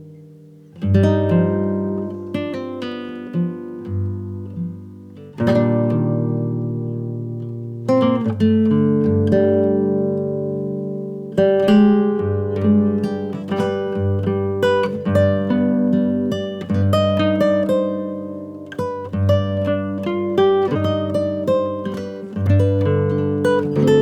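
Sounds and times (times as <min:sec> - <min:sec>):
acoustic guitar picking: 0:00.0 - 0:24.0.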